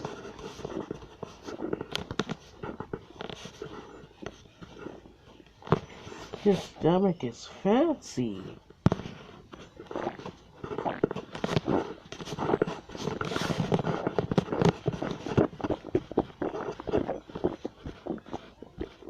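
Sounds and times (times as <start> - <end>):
stomach growling and gurgling: 0.0 - 6.0, 9.2 - 19.0.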